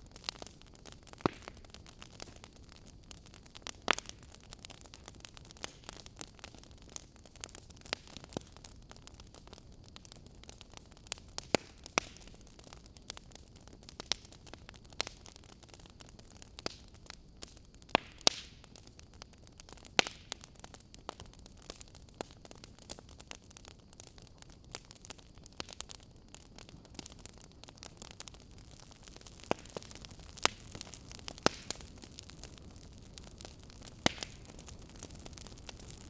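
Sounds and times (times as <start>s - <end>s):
soft steady fire hiss: 0.0s - 36.0s
wood fire crackling and popping: 0.0s - 36.0s.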